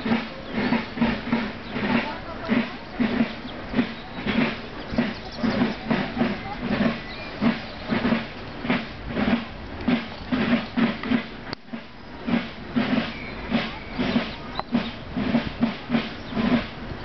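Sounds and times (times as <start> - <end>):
drum beating march rhythm: 0.0 - 17.0.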